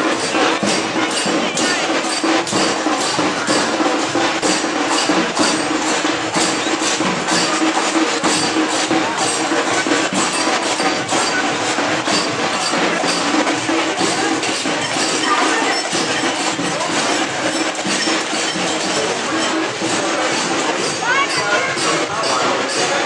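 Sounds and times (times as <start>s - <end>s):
band playing loud percussion: 0.0s - 23.0s.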